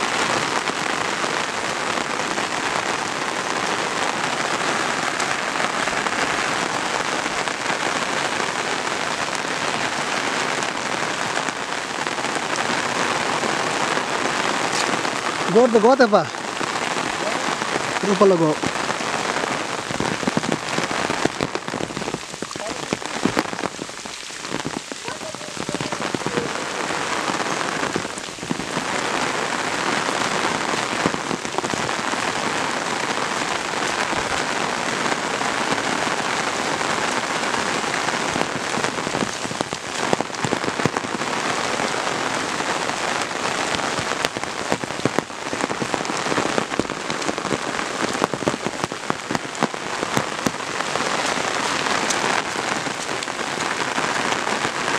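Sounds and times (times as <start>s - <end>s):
raindrops hitting an umbrella: 0.0s - 54.9s
steady rain falling: 0.0s - 54.9s.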